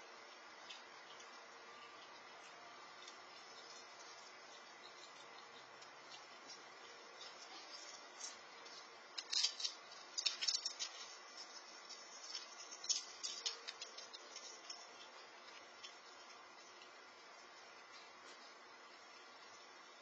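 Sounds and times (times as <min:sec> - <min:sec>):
squirrel crunching a peanut: 0:00.2 - 0:20.0.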